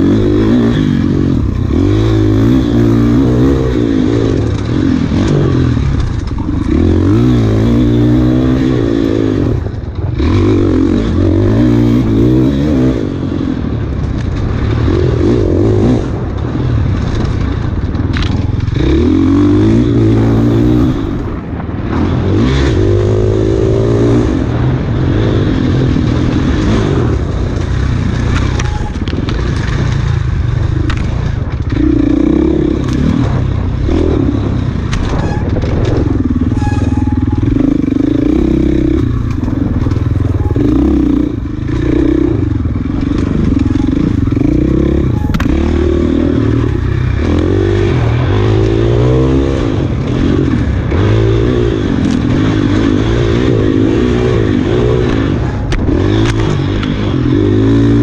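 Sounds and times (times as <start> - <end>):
bike rattling and scraping: 0.0 - 58.0
dirt bike engine revving: 0.0 - 58.0.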